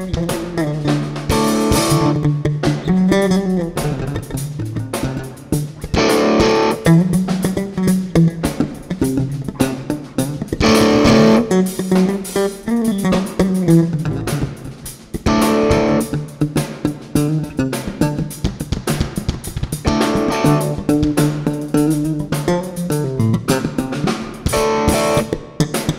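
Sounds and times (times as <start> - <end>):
electric bass melodic line: 0.0 - 25.9
electric guitar chords ringing: 0.0 - 25.9.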